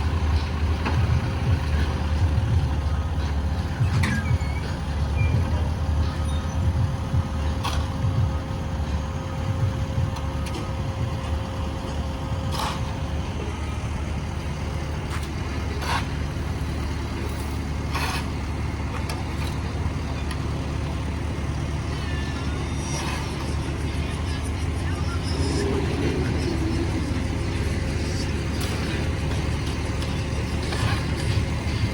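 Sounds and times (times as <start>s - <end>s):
diesel machinery rumbling: 0.0s - 31.9s.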